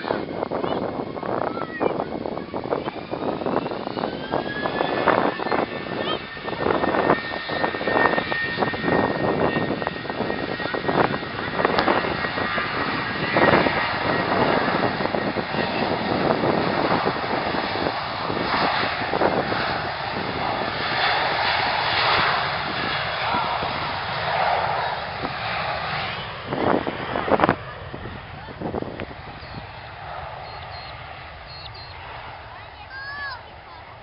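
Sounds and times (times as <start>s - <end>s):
aircraft engines roaring: 0.0s - 34.0s.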